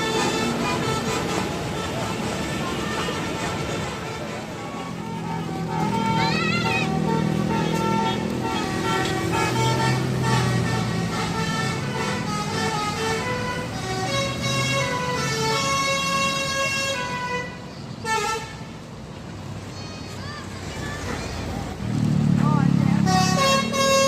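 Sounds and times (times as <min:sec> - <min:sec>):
musical bus air horn: 0:00.0 - 0:18.9, 0:23.0 - 0:24.0.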